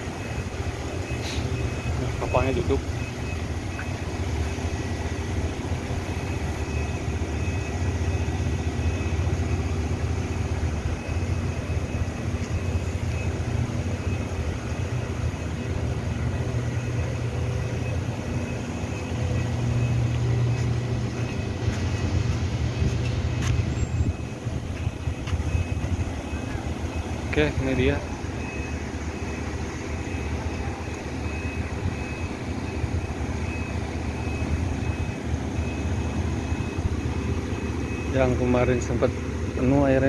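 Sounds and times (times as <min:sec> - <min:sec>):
machinery drone: 0:00.0 - 0:40.0.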